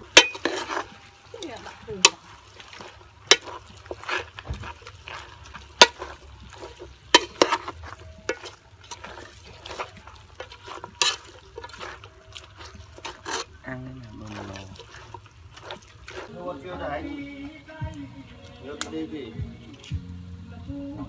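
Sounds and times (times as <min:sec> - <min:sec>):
liquid sounds: 0:00.0 - 0:21.0
utensils knocking and scraping in pot: 0:00.0 - 0:21.0.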